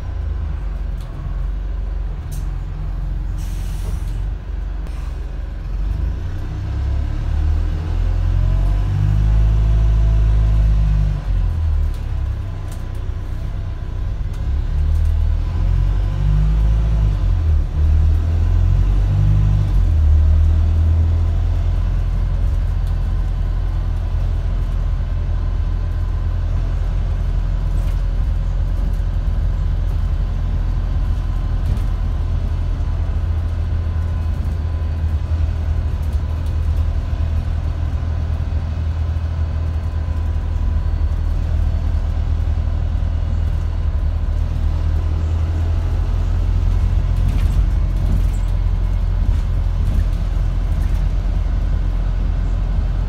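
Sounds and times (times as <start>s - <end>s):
bus engine low rumble: 0.0s - 53.0s.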